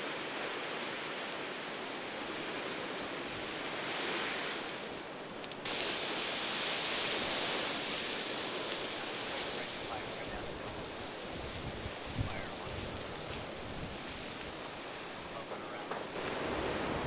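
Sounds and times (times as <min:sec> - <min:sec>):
fire crackling: 0:00.0 - 0:17.0
wildfire roaring: 0:00.0 - 0:17.0.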